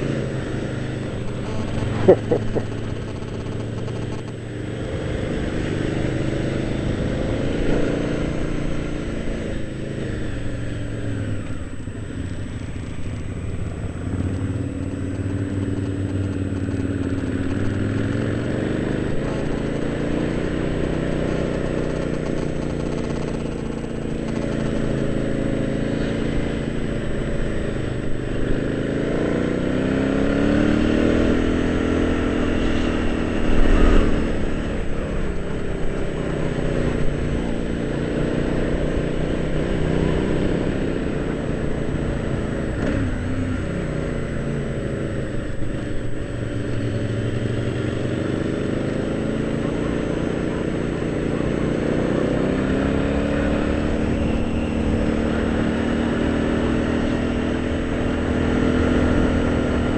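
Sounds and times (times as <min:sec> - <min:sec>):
motorcycle engine under load: 0:00.0 - 0:59.9.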